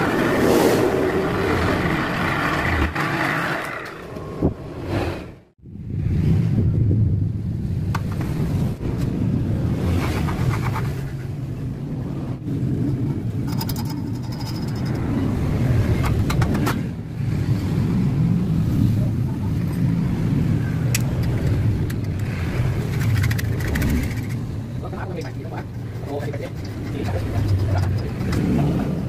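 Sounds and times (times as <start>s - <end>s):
low mechanical rumble: 0.0s - 29.0s.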